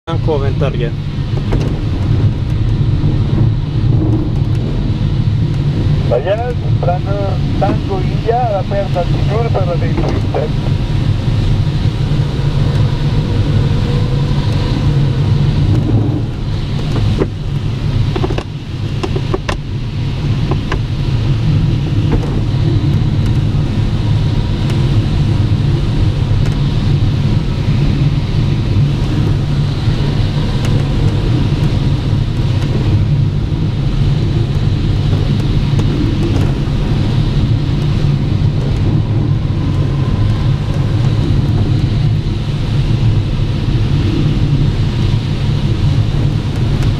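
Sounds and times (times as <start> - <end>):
airflow rushing around canopy: 0.1 - 46.9.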